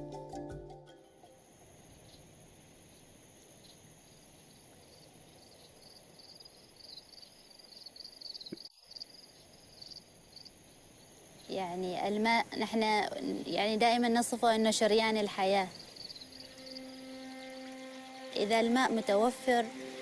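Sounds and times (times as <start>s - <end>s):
steady background hiss: 0.0s - 20.0s
high insect chirping: 0.9s - 20.0s.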